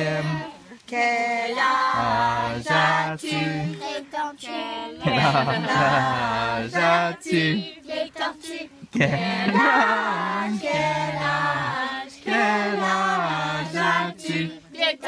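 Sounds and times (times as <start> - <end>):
group singing birthday song: 0.0 - 15.0.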